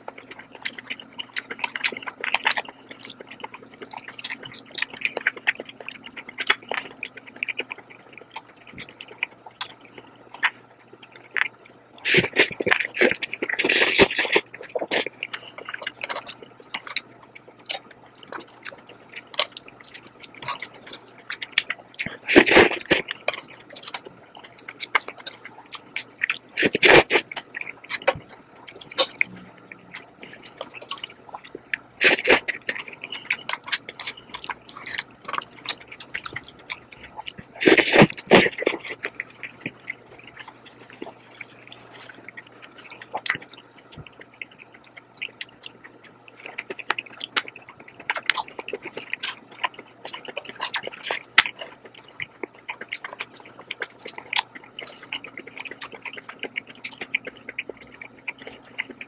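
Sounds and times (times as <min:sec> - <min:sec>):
wet chewing of noodles: 0:00.0 - 0:59.0.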